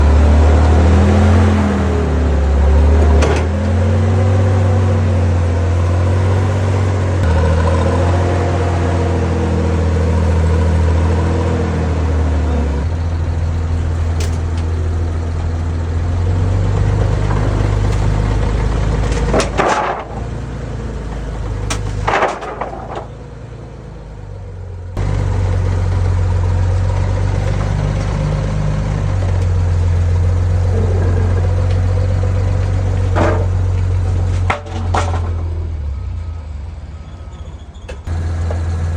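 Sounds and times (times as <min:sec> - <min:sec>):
vehicle engine revving: 0:00.0 - 0:36.0, 0:38.0 - 0:38.9.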